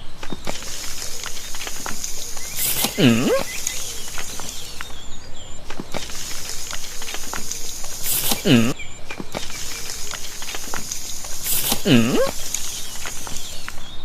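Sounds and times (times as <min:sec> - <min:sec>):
countryside ambience: 0:00.0 - 0:14.0
animal call: 0:00.5 - 0:08.8, 0:09.5 - 0:14.0.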